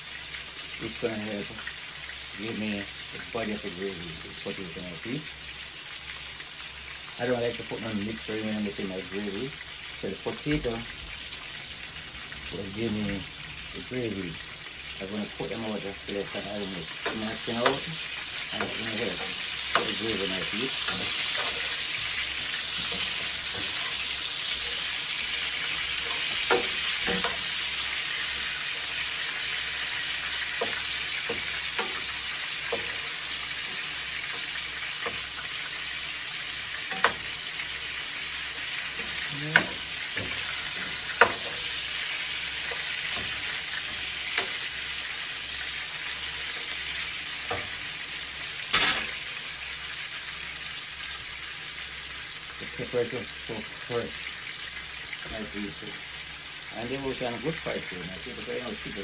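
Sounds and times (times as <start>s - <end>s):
pot cooking with high hiss: 0.0s - 59.0s.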